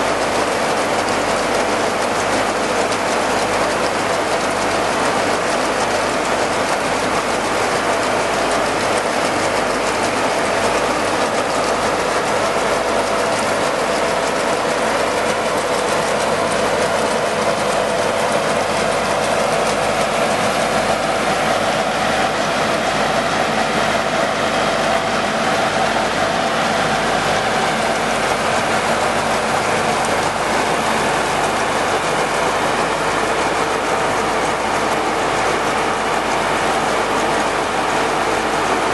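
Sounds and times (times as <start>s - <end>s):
grain cleaner rattling and humming: 0.0s - 38.9s.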